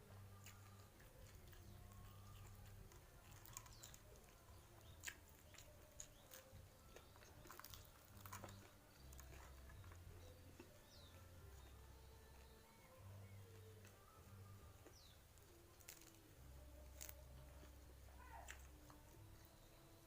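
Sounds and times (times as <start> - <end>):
chewing and biting: 0.1 - 17.8.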